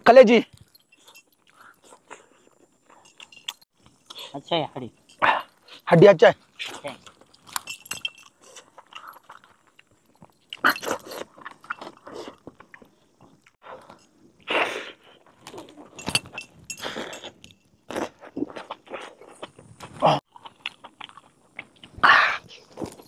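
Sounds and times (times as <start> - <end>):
chewing and crunching on bone: 0.4 - 5.8, 6.4 - 23.0.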